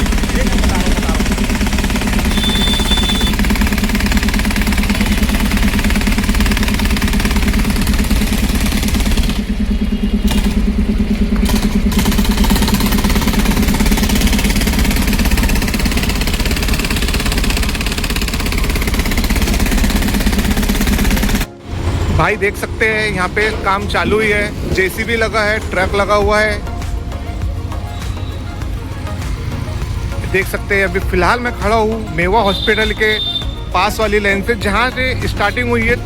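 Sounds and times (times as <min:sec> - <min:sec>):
engine running at low speed: 0:00.0 - 0:36.0.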